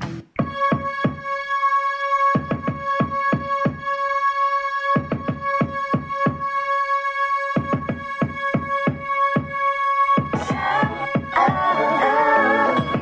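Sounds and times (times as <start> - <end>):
drum machine kick beat: 0.0 - 1.4, 2.3 - 4.0, 4.9 - 6.7, 7.5 - 13.0.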